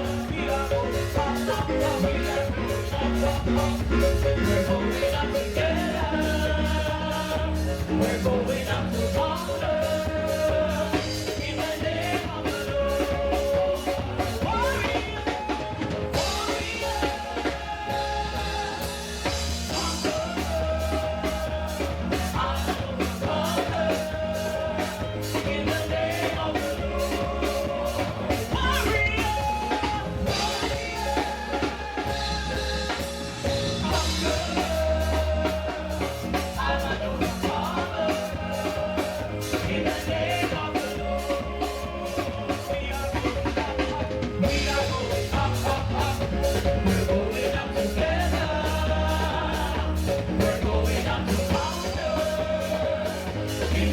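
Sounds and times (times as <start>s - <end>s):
gospel worship music with band: 0.0s - 53.9s.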